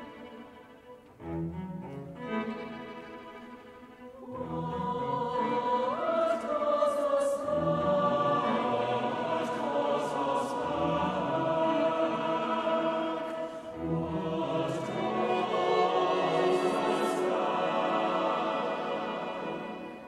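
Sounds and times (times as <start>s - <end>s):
choir singing held chords: 3.3s - 20.0s.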